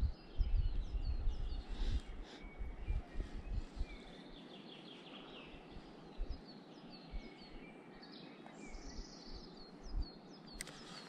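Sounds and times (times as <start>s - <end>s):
bird singing: 0.0s - 11.0s.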